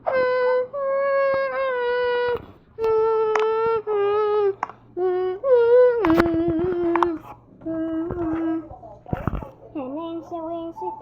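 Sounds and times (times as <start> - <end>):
child humming: 0.0 - 11.0.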